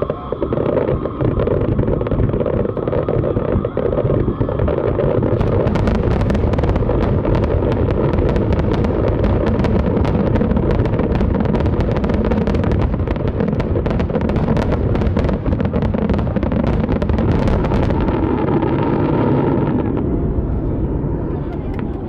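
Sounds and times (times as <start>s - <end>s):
fireworks booming and crackling: 0.0s - 22.0s.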